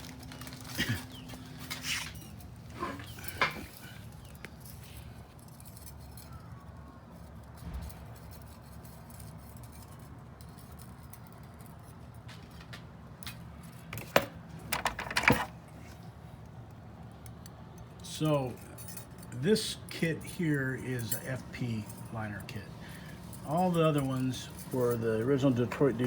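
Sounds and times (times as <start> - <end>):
metal parts clinking: 0.0 - 15.6, 17.2 - 26.0.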